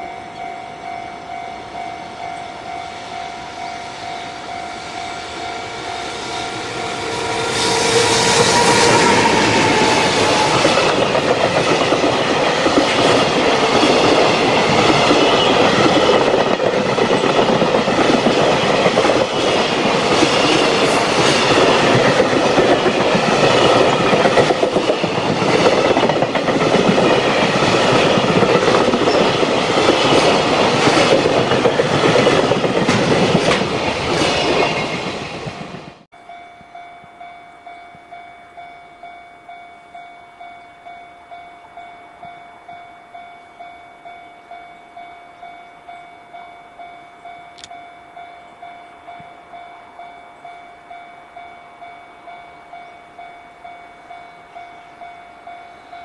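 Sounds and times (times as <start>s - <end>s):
freight train passing at speed: 0.0s - 56.0s.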